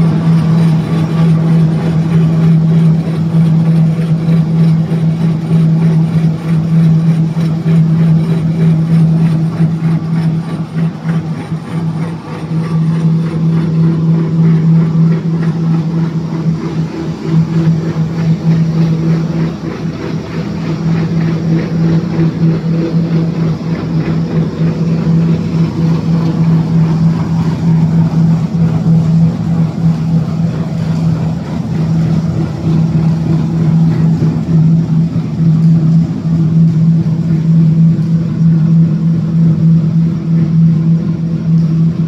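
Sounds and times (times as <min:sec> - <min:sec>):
pulp slurry churning: 0:00.0 - 0:38.9
machine hum: 0:00.0 - 0:42.0.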